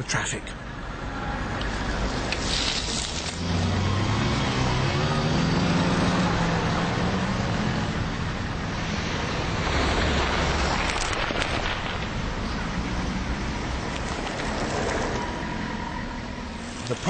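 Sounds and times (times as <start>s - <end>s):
traffic noise: 0.0s - 17.0s
car passing: 0.6s - 17.0s.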